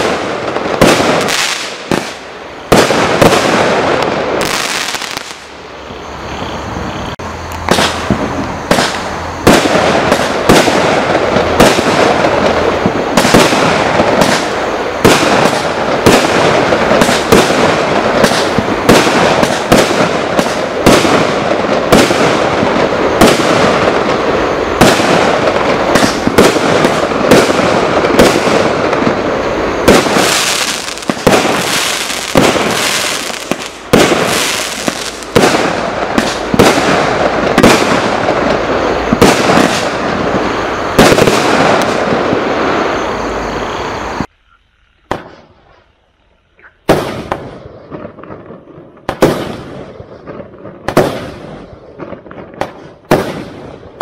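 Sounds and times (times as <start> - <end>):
firework bursts and crackling: 0.0 - 44.3, 45.0 - 54.0
firework sharp reports: 0.0 - 54.0.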